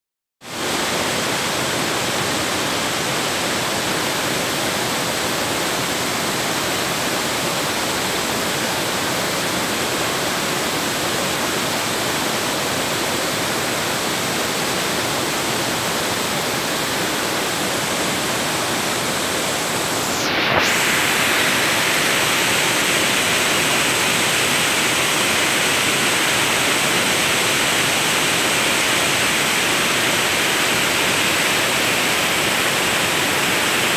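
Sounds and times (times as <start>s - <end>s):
waterfall rushing: 0.5s - 33.9s.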